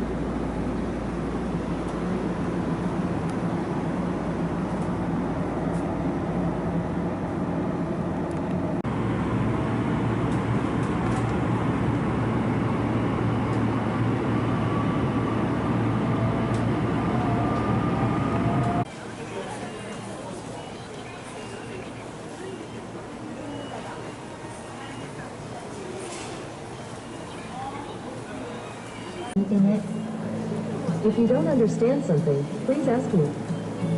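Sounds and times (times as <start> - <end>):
train rumbling in motion: 0.0 - 33.9.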